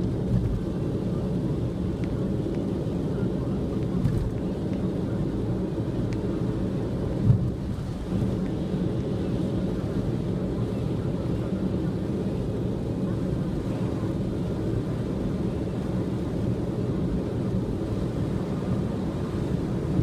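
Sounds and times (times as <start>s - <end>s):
road and rain rumble: 0.0s - 20.0s.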